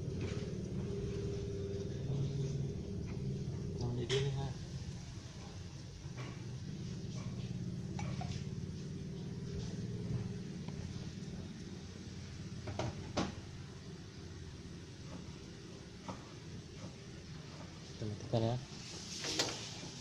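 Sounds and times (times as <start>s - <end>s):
low rumble from stove: 0.0s - 20.0s.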